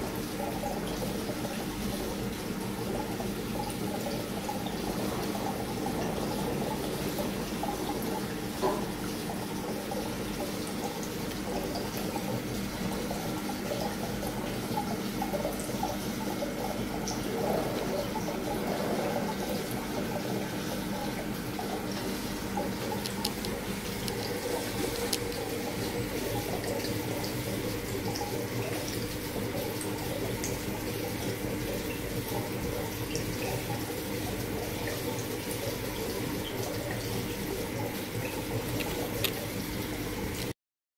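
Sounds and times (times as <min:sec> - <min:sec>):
water running and trickling: 0:00.0 - 0:40.6
faint drips and clicks: 0:00.2 - 0:40.5.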